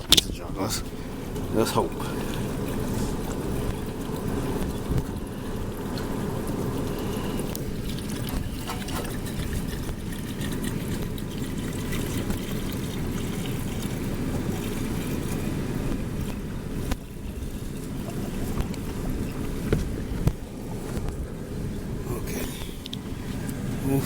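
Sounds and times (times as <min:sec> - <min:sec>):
water trickling from a bottle: 0:00.0 - 0:21.5
wind rumble on microphone: 0:00.0 - 0:24.0.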